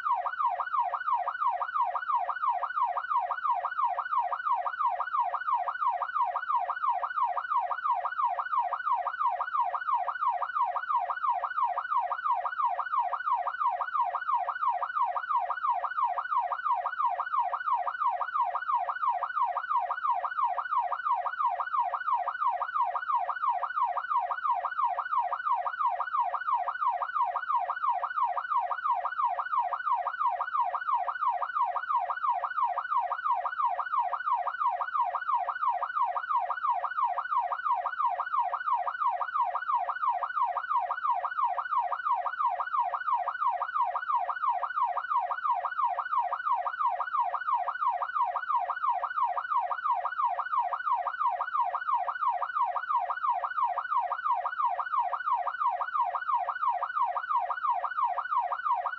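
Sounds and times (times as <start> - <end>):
police siren yelping: 0.0 - 58.9.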